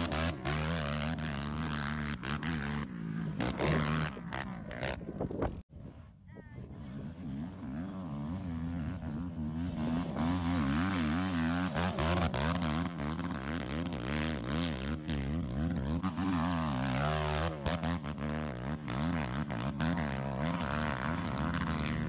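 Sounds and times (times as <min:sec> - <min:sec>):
quad engine revving hard: 0:00.0 - 0:05.2, 0:06.6 - 0:22.0.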